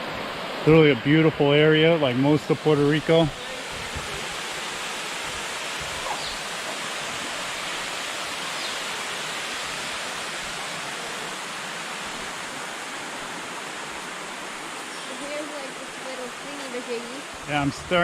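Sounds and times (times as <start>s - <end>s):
waterfall and river rapids rushing: 0.0s - 18.0s.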